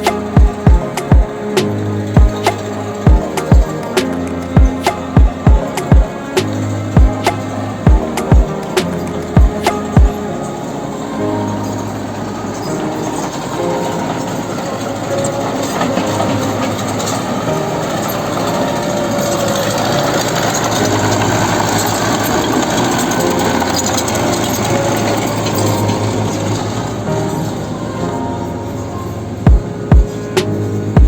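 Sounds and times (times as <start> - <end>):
mechanical rattle and clatter: 0.0 - 10.7, 11.8 - 27.8
excavator engine hum: 0.0 - 31.0.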